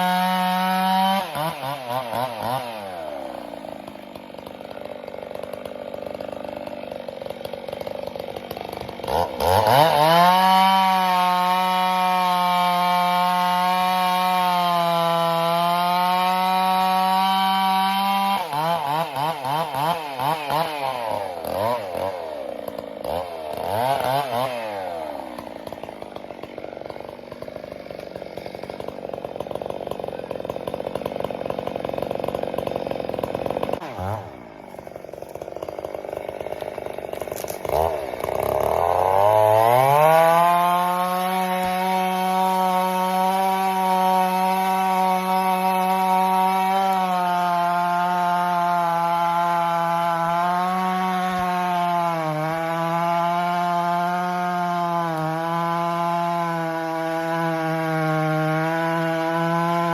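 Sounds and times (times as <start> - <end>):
chainsaw revving: 0.0 - 59.9.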